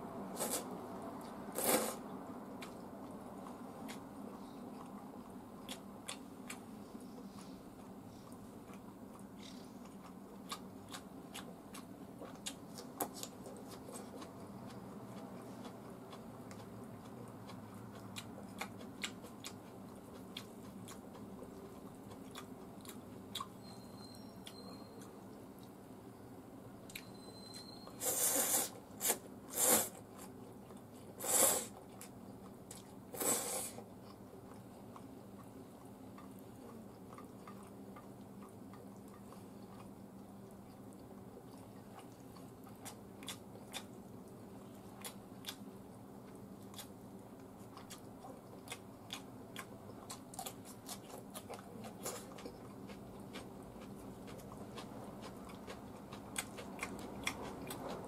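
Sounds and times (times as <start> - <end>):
person chewing: 0.4 - 2.0, 2.6 - 23.5, 28.0 - 58.0.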